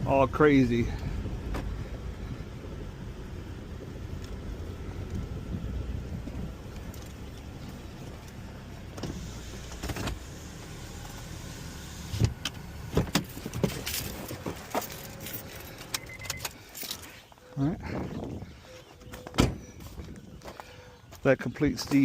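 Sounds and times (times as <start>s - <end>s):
car cabin low rumble: 0.0s - 22.0s.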